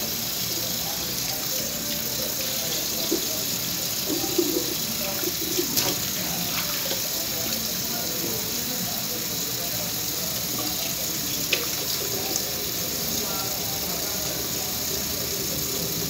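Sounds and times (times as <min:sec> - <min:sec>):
kitchen tap running into bowl: 0:00.0 - 0:16.0.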